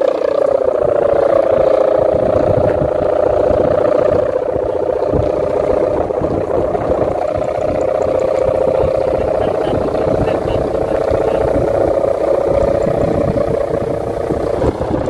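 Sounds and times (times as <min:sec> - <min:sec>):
kite hummer droning: 0:00.0 - 0:15.0
wind buffeting microphone: 0:00.0 - 0:15.0.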